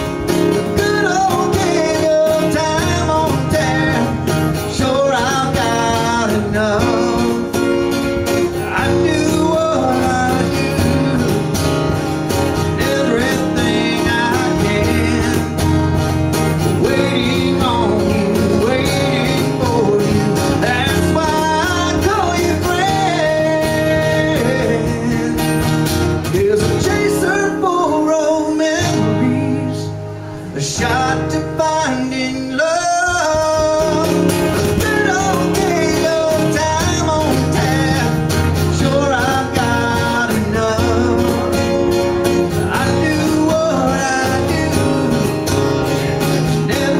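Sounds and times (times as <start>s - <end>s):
cajon percussion: 0.0s - 46.9s
guitar: 0.0s - 46.9s.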